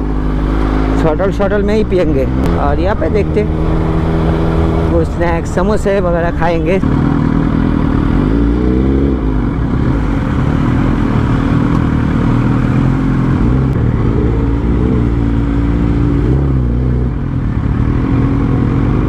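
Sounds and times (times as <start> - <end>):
motorcycle engine running at low revs: 0.0 - 19.0.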